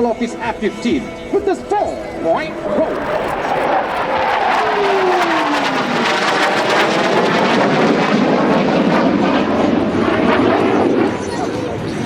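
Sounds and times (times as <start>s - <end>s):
fighter jet engines roaring: 0.0s - 12.0s
jet whine falling in pitch: 0.0s - 12.0s.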